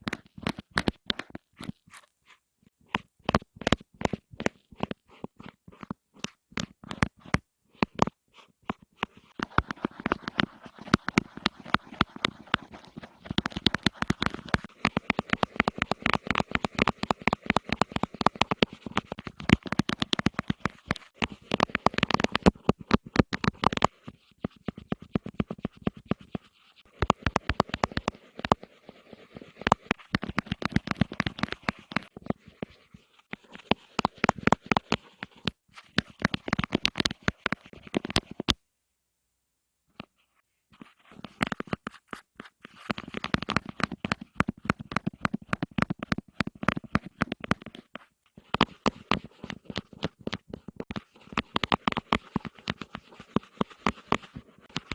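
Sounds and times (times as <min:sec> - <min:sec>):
rapid tapping and clicks: 0:00.0 - 0:01.9, 0:02.9 - 0:38.6, 0:40.8 - 0:54.9.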